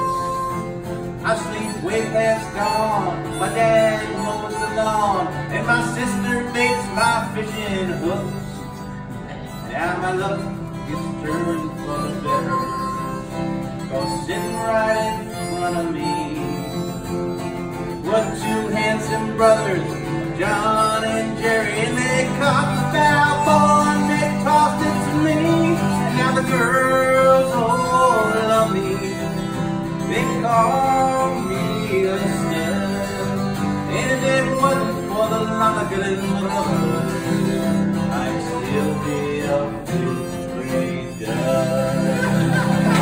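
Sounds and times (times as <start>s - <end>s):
acoustic guitar strumming: 0.0s - 43.0s
harmonica melody: 0.0s - 43.0s.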